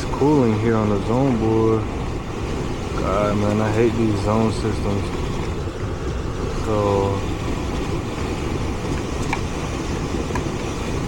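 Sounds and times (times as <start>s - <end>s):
blower fan rumbling: 0.0s - 11.0s.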